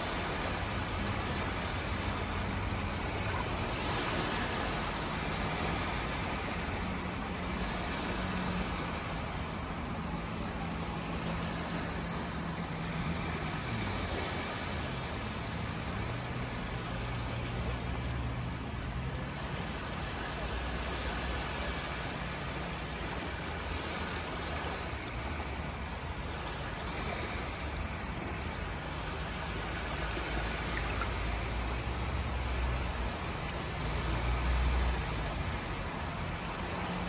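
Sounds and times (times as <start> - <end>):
low engine hum: 0.0 - 37.0
surf rushing on sandy beach: 0.0 - 37.0.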